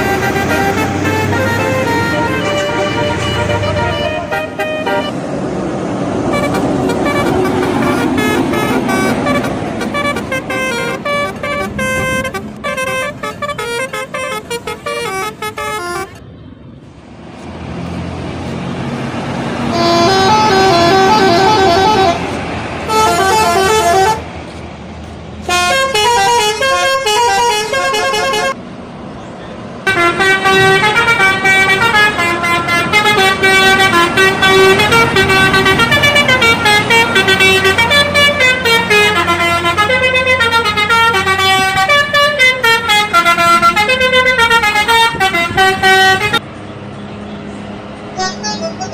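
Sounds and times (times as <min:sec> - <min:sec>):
bus air horns playing melodies: 0:00.0 - 0:05.2, 0:06.2 - 0:16.2, 0:19.4 - 0:24.6, 0:25.4 - 0:28.6, 0:29.8 - 0:46.4, 0:48.2 - 0:48.9.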